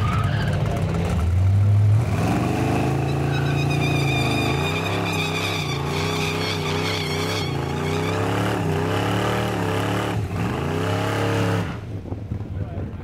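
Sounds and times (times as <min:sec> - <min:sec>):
suv accelerating: 0:00.0 - 0:12.5.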